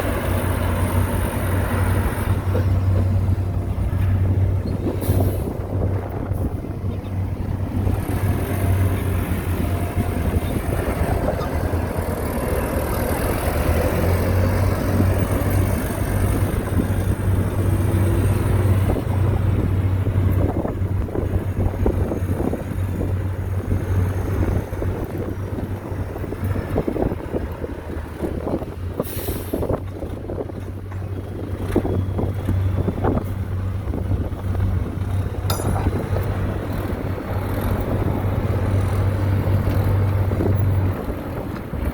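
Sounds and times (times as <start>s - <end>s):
diesel engine humming: 0.0s - 41.9s.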